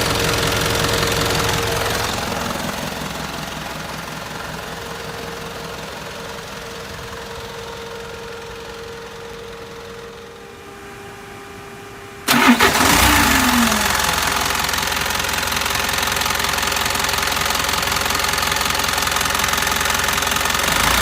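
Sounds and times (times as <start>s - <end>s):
diesel engine idling: 0.0s - 10.9s, 12.3s - 21.0s.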